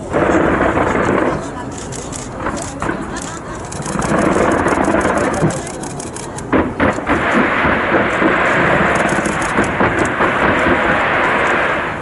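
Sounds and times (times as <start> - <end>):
fireworks crackling and rumbling: 0.0 - 12.0
sharp fireworks bangs: 0.0 - 12.0.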